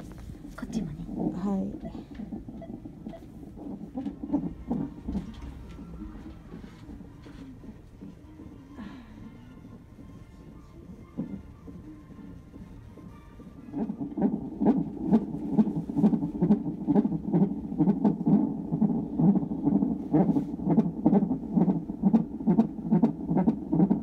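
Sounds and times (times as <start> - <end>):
fetal heartbeat on doppler: 0.0 - 24.0.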